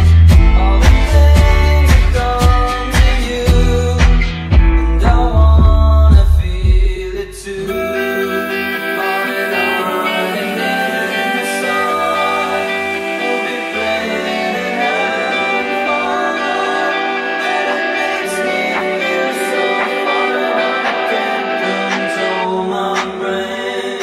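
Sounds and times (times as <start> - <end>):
plucked guitar music: 0.0 - 6.1, 7.7 - 22.6.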